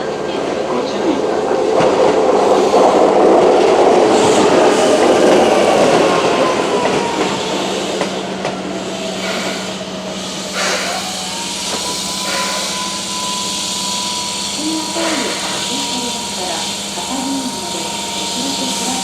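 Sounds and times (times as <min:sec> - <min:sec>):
electric train running on rails: 0:00.0 - 0:19.0
train motor whine: 0:02.3 - 0:19.0.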